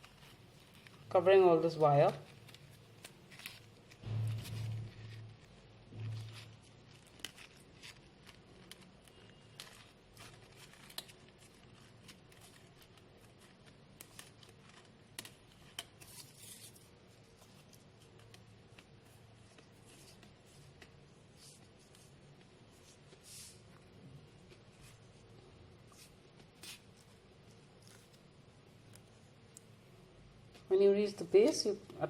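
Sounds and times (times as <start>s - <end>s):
paper crinkling: 0.0s - 32.0s.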